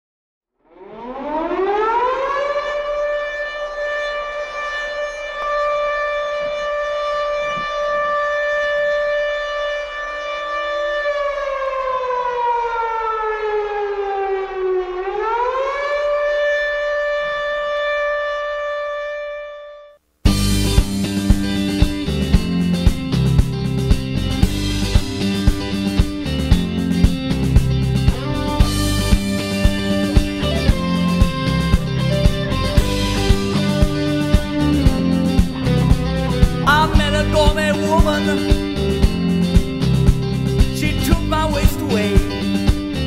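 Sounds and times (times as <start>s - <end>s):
siren wailing: 0.6s - 42.9s.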